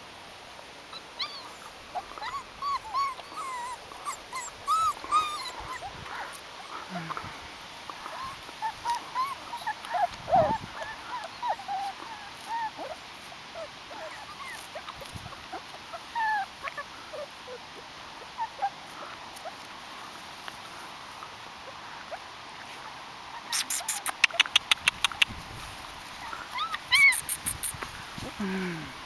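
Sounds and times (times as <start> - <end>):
puppies whimpering and yipping: 0.9 - 7.3, 8.0 - 19.7, 21.6 - 25.3, 26.1 - 27.9.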